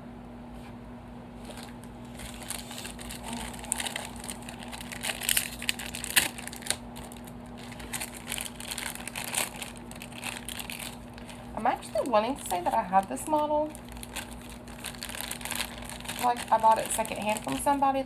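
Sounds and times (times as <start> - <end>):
faint steady hum: 0.0 - 18.0
plastic packaging crinkling: 1.4 - 18.0.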